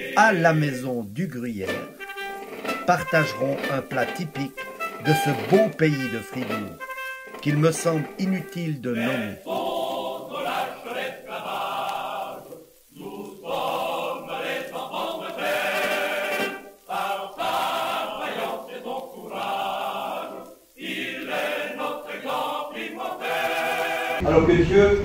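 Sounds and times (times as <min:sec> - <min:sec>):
choir singing: 0:00.0 - 0:25.0.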